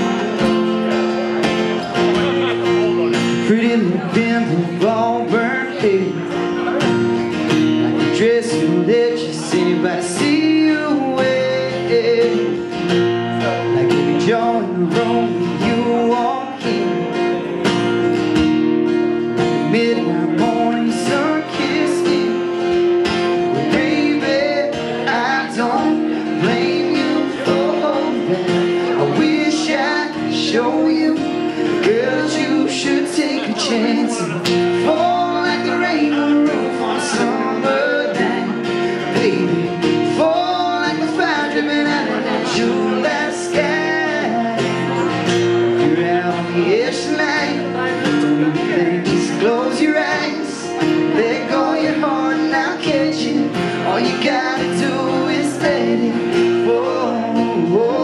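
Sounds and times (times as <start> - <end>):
acoustic guitars strumming: 0.0 - 58.0
man singing: 0.0 - 58.0.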